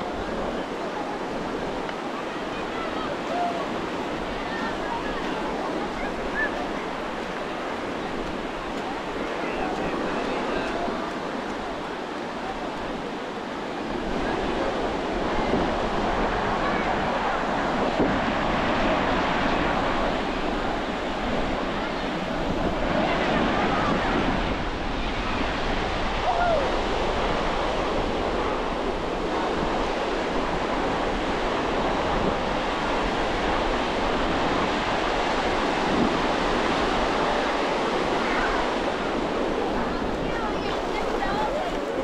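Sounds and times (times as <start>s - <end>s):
ocean surf breaking on shore: 0.0s - 42.0s
wind buffeting microphone: 0.0s - 42.0s.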